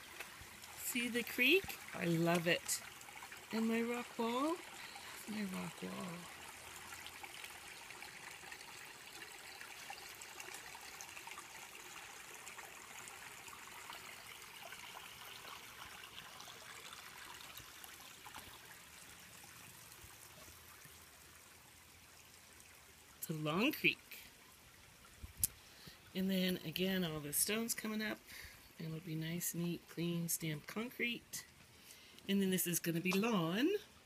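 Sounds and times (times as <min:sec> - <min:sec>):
water trickling over stones: 0:00.0 - 0:34.0.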